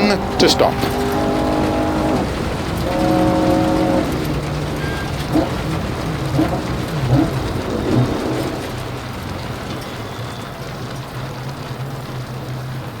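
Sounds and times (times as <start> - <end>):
car engine running low: 0.0 - 13.0
steady rain falling: 0.0 - 13.0.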